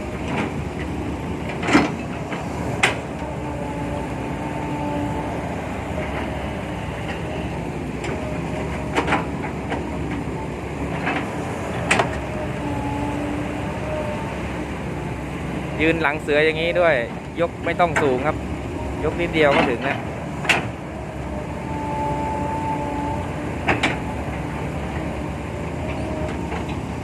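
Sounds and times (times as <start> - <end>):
excavator engine under load: 0.0 - 27.0.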